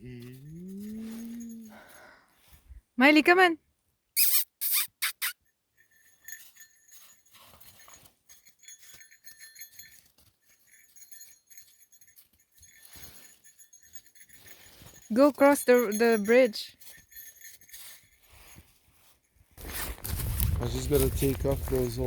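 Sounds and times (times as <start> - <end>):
dog collar jingling: 0.0 - 2.5, 4.2 - 22.0.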